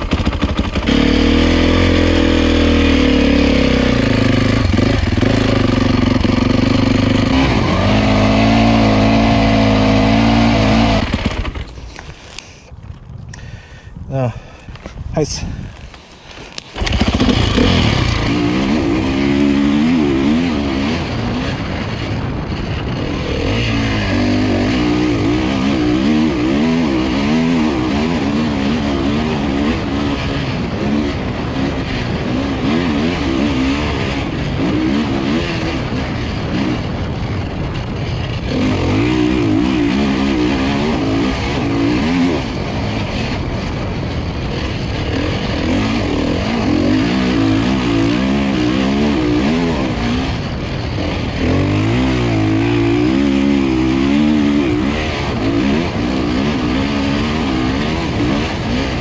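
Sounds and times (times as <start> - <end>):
motocross bike engine revving: 0.0 - 12.3, 16.2 - 59.0.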